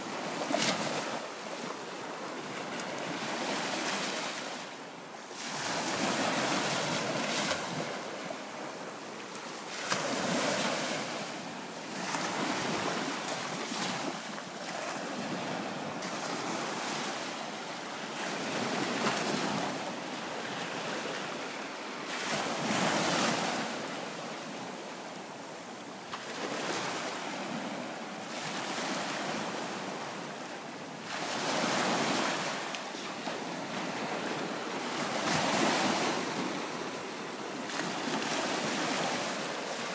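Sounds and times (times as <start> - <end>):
waves washing up sandy beach: 0.0 - 39.9.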